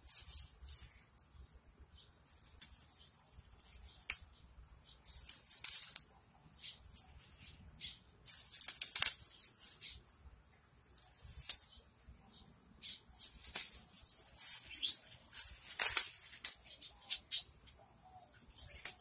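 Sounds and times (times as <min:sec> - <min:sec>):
leaves and stems rustling: 0:00.0 - 0:19.0.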